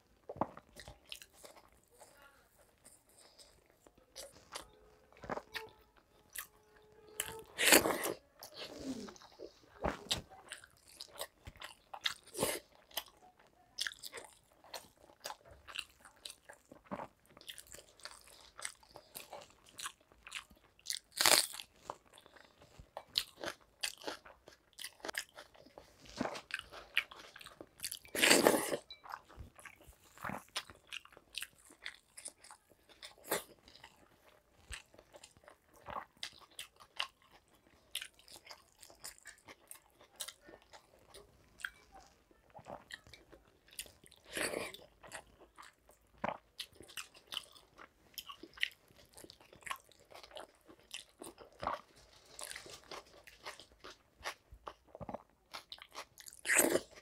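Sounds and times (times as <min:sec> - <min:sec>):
food crunching: 0:00.0 - 0:57.0
person chewing and smacking: 0:00.0 - 0:57.0.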